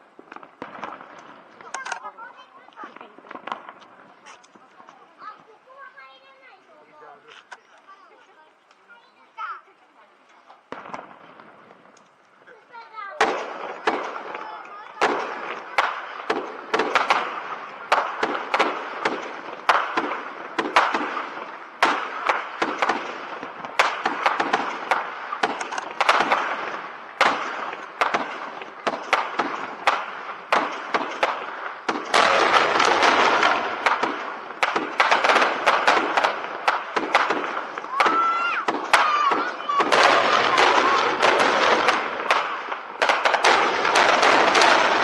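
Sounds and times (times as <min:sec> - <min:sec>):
fireworks bursting: 0:00.0 - 0:45.0
fireworks crackling: 0:00.0 - 0:45.0.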